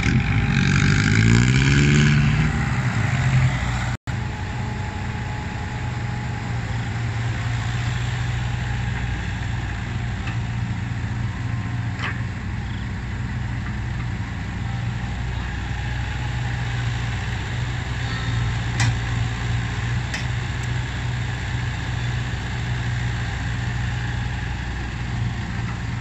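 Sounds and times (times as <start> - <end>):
diesel engines droning: 0.0 - 26.0.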